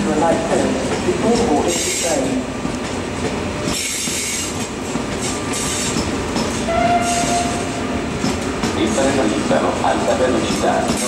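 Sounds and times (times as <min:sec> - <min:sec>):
train wheels clicking over joints: 0:00.2 - 0:11.0.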